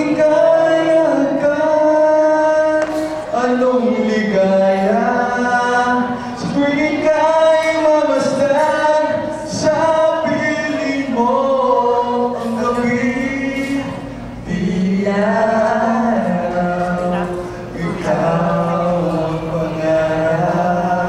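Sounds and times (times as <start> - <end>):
man and woman singing duet: 0.0 - 21.0.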